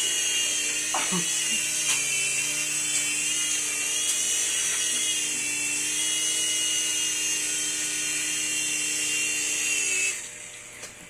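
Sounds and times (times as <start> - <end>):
toy helicopter rotor whining: 0.0 - 10.4.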